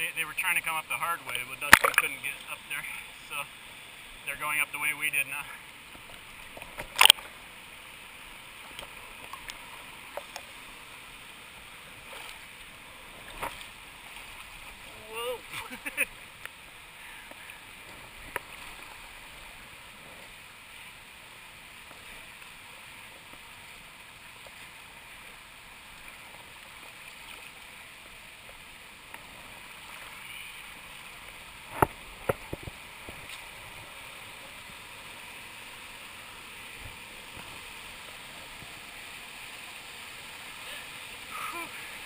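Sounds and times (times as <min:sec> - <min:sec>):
river water rushing over rocks: 0:00.0 - 0:42.0.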